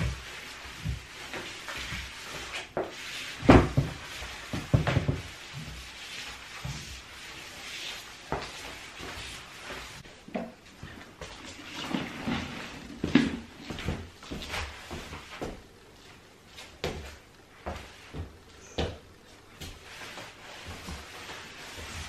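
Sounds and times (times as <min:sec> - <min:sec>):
broom sweeping tiles: 0:00.0 - 0:22.0.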